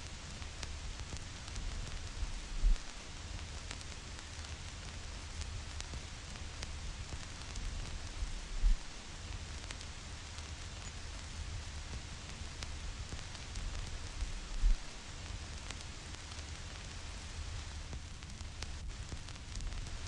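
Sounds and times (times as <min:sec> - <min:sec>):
vinyl record crackle and hiss: 0:00.0 - 0:20.0.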